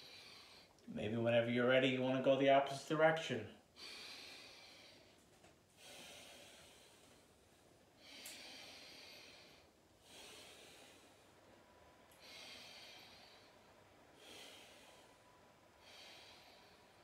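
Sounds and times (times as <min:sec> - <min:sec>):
person breathing slowly: 0:00.0 - 0:00.8, 0:03.7 - 0:17.0.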